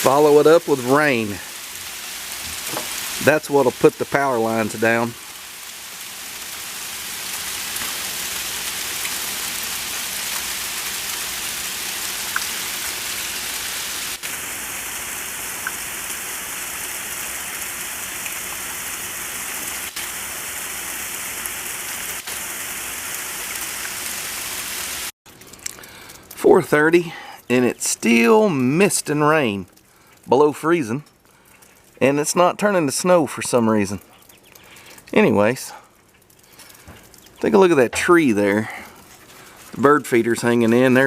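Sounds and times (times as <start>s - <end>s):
sleet and freezing rain hissing: 0.0s - 41.0s.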